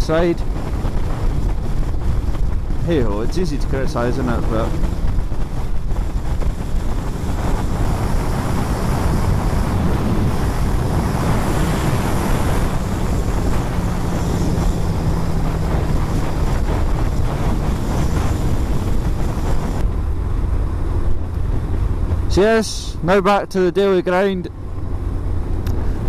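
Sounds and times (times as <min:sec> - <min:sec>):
motorcycle engine running: 0:00.0 - 0:22.4
wind buffeting microphone: 0:00.0 - 0:26.0.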